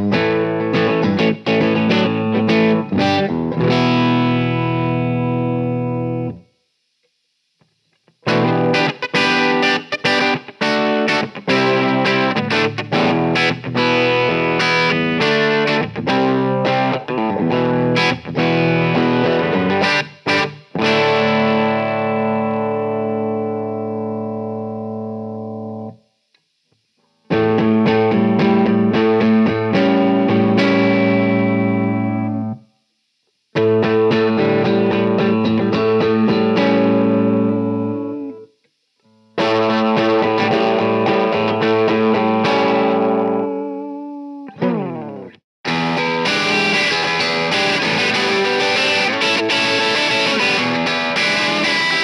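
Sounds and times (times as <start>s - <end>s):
clean electric guitar chords: 0.0s - 6.6s, 8.1s - 26.0s, 27.3s - 32.6s, 33.6s - 52.0s
overdriven electric guitar: 0.0s - 32.6s, 33.2s - 52.0s.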